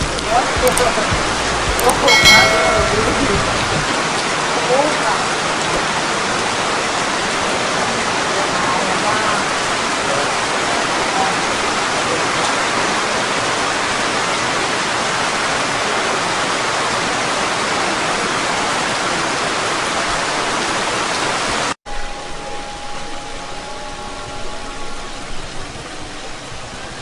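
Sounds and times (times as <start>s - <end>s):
heavy rain on water: 0.0s - 27.0s.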